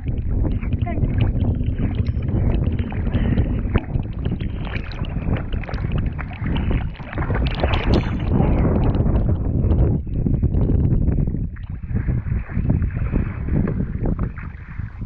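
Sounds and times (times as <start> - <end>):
paddle splashing water: 0.0 - 15.0
wind on microphone: 0.0 - 15.0.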